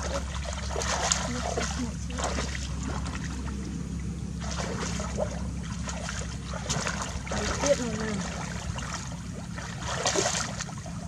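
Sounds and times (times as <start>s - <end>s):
steady low hum: 0.0s - 11.0s
water splashing and dribbling: 0.0s - 11.0s.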